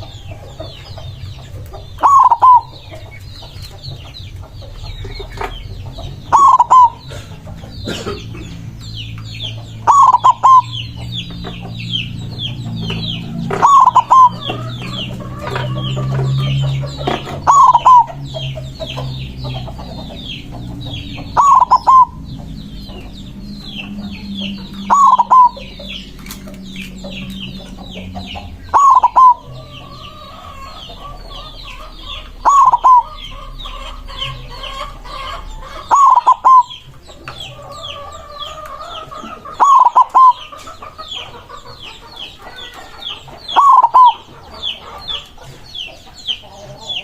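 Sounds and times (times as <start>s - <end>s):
dove cooing: 0.0s - 47.0s
high-pitched chirping: 0.0s - 47.0s.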